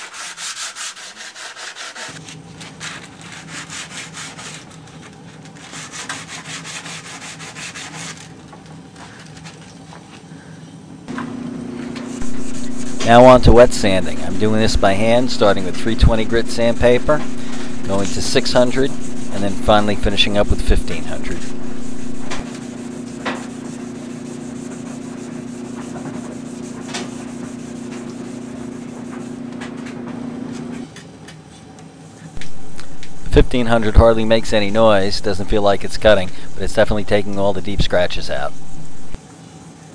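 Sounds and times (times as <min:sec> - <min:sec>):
hand sanding strokes: 0:00.0 - 0:08.4, 0:12.0 - 0:29.9, 0:32.4 - 0:39.2
steady low hum: 0:02.1 - 0:39.9.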